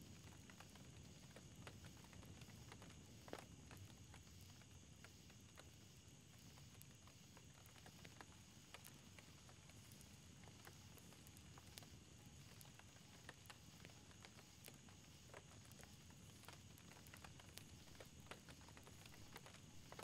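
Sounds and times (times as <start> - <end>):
campfire crackling and popping: 0.0 - 20.0
low steady hiss: 0.0 - 20.0.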